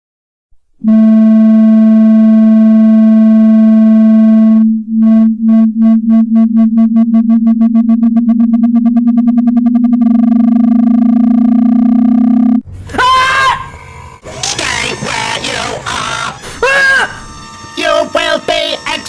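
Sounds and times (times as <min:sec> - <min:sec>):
electronic buzzing tone: 0:00.8 - 0:12.6, 0:13.7 - 0:19.0.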